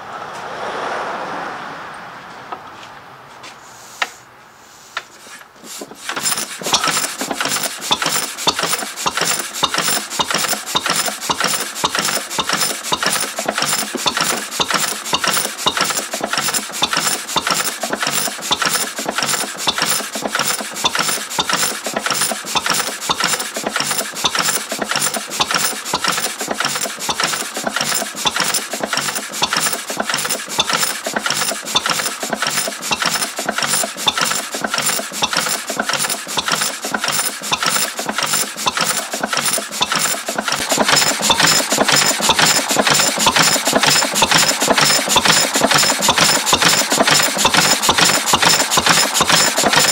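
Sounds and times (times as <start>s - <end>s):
stationary engine running: 6.0s - 49.9s.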